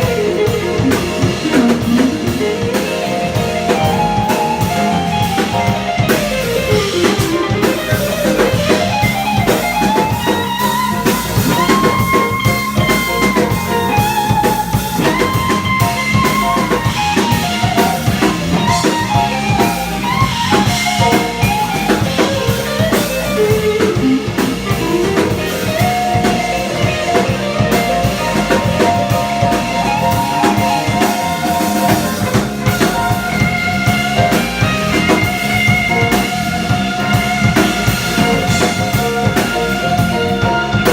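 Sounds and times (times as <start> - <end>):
drum kit groove: 0.0 - 40.9
jazz band playing: 0.0 - 40.9.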